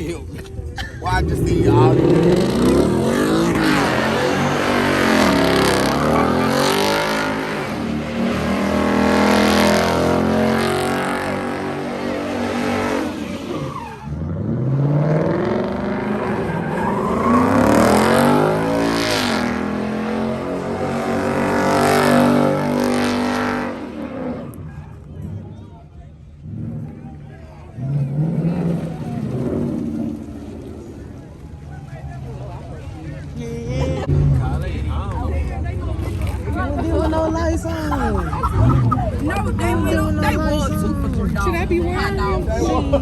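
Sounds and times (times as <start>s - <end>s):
car engine revving: 1.0s - 36.5s.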